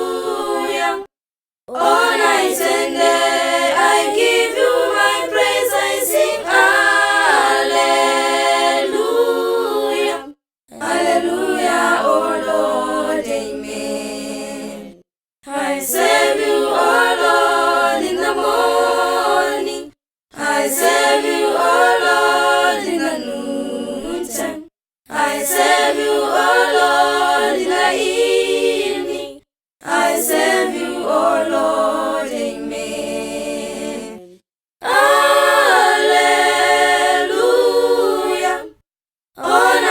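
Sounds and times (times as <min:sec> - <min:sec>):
a cappella group singing in harmony: 0:00.0 - 0:01.1, 0:01.7 - 0:39.9.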